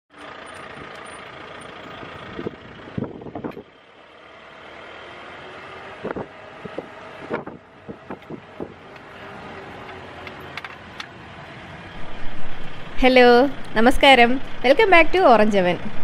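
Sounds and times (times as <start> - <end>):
vehicle engine and road noise: 0.1 - 16.0
wind: 0.1 - 16.0.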